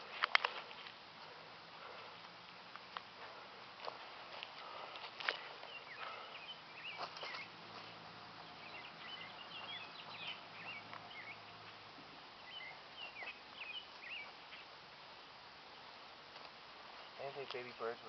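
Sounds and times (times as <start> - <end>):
birds chirping: 0.0 - 18.0
faint steady hum: 0.0 - 18.0.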